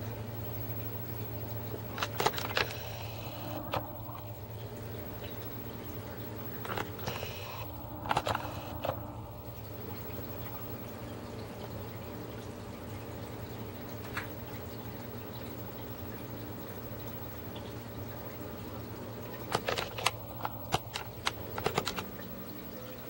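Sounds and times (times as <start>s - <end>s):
water trickling and dripping: 0.0s - 2.0s, 3.6s - 6.6s, 7.6s - 19.5s, 20.1s - 23.0s.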